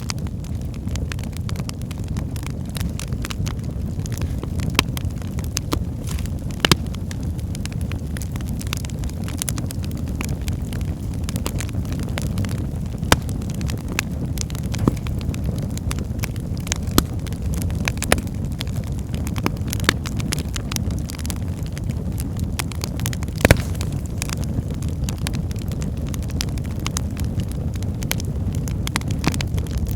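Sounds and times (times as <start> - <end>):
low rumble of flames: 0.0 - 29.9
wood crackling and popping: 0.0 - 29.9.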